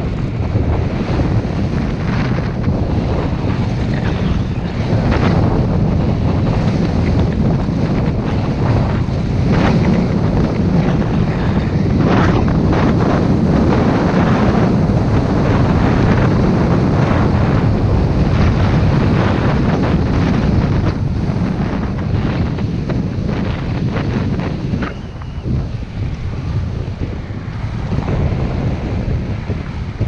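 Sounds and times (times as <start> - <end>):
skis scraping over snow: 0.0 - 30.0
wind buffeting microphone: 0.0 - 30.0.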